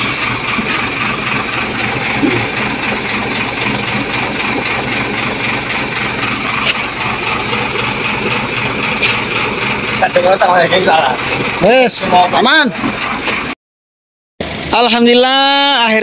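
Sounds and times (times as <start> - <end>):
diesel truck engine idling: 0.0 - 13.6, 14.4 - 16.0.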